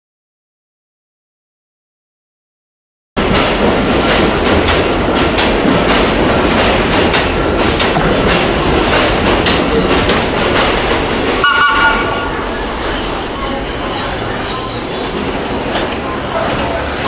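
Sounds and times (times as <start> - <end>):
subway train wheels on rail: 3.2 - 17.0
wheels clicking over rail joints: 3.2 - 17.0.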